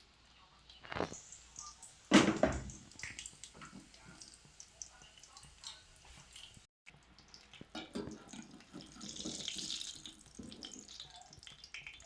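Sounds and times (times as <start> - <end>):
fritters sizzling in hot oil: 0.0 - 12.0.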